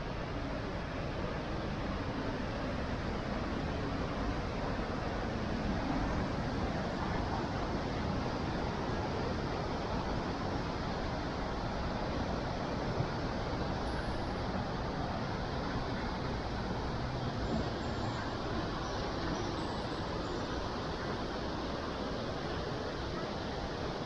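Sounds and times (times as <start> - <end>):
waterfall roaring: 0.1 - 24.0.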